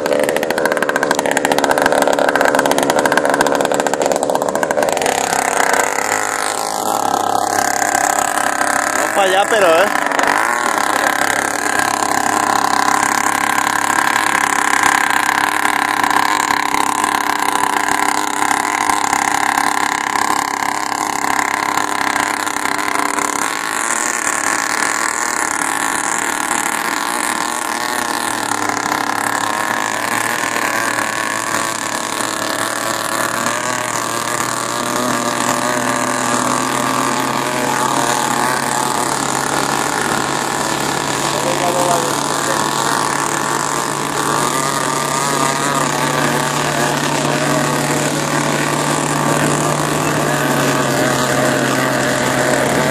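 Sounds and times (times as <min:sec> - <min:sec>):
boat engines running: 0:00.0 - 0:52.9
rushing water: 0:04.9 - 0:52.9.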